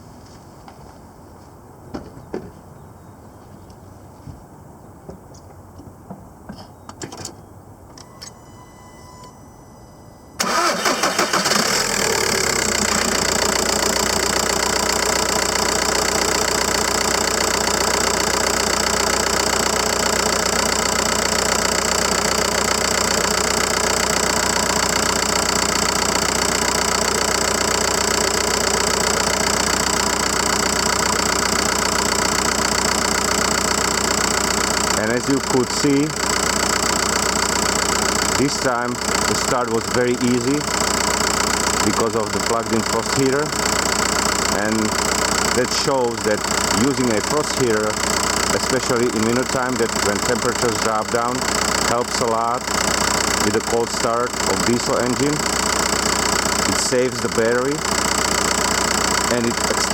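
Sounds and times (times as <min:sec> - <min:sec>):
diesel engine starting and idling: 0:07.1 - 0:59.9.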